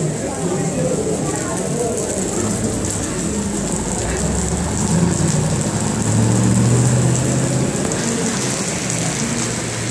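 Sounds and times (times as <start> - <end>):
city traffic on wet street: 0.0 - 9.9
rain hiss: 0.0 - 9.9
vehicle engine hum: 0.1 - 9.9.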